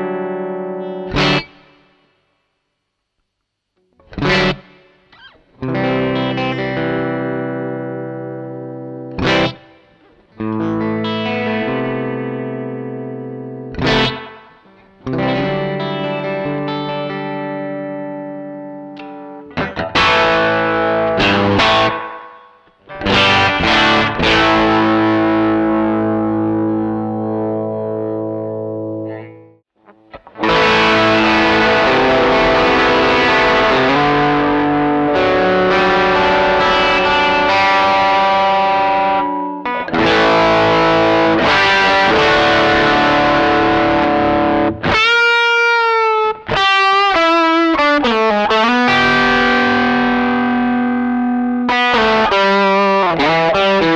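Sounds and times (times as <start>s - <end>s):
distorted electric guitar: 0.0s - 2.1s, 3.3s - 53.9s.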